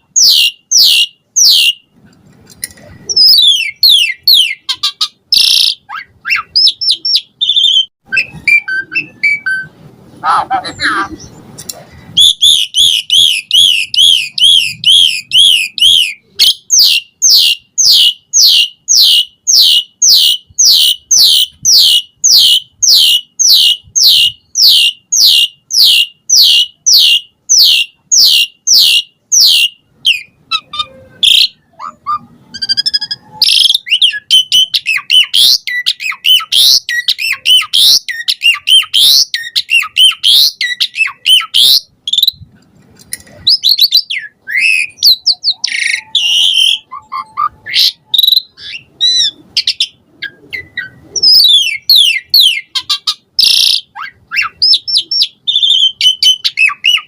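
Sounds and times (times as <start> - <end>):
starling singing: 0.0 - 1.9, 3.0 - 11.4, 12.1 - 42.4, 43.3 - 57.0.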